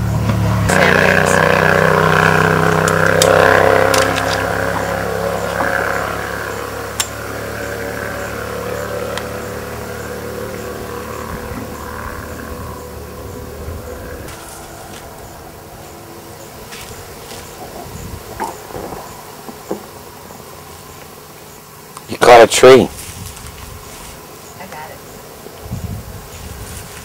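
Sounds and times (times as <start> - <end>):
engine hum: 0.0 - 27.0.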